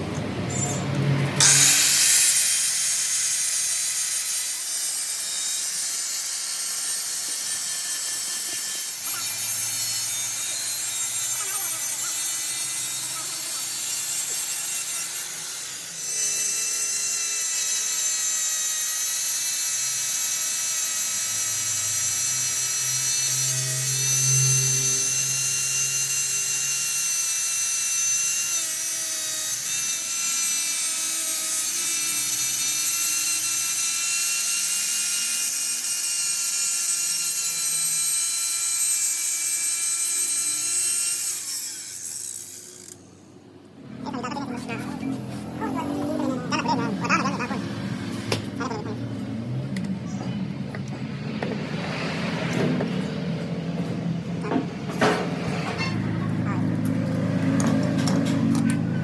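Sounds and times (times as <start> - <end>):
power tool whining: 0.0 - 59.0.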